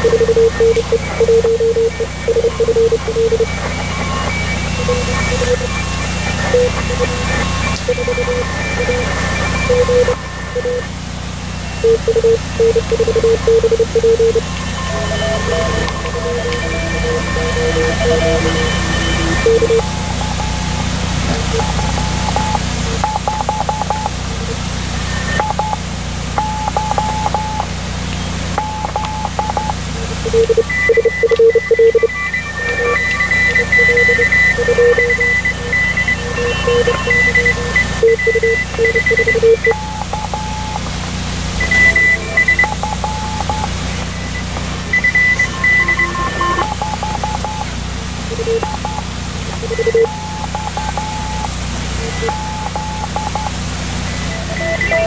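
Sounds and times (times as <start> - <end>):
morse code beeps: 0.0 - 55.0
steady low hum: 0.0 - 55.0.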